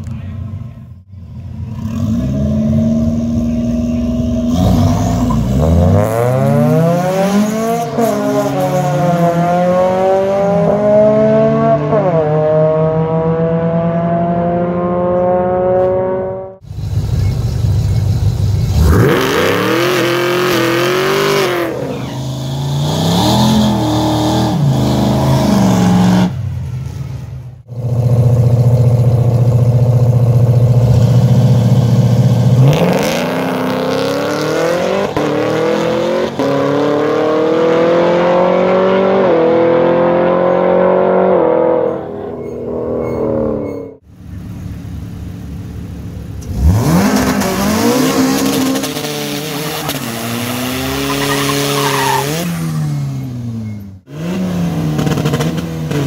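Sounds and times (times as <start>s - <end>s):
race car engines accelerating: 0.0s - 26.5s, 30.6s - 56.0s.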